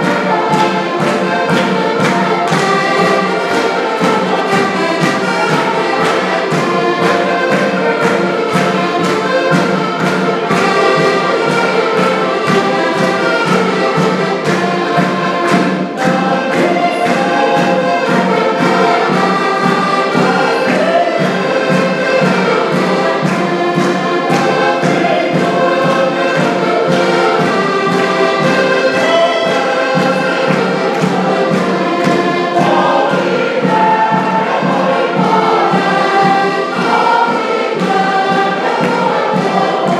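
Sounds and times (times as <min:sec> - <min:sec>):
accordions playing folk music: 0:00.0 - 0:39.9
group singing: 0:00.0 - 0:39.9
hand clapping: 0:00.0 - 0:39.9.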